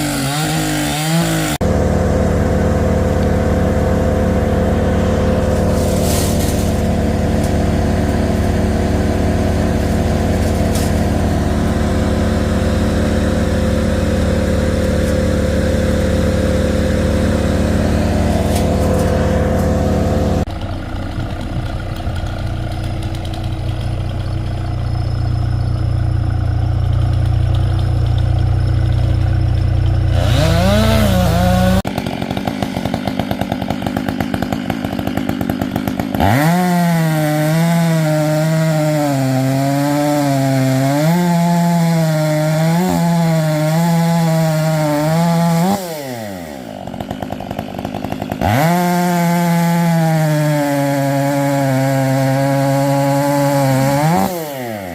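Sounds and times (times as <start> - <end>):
chainsaw idling and cutting wood: 0.0 - 54.9.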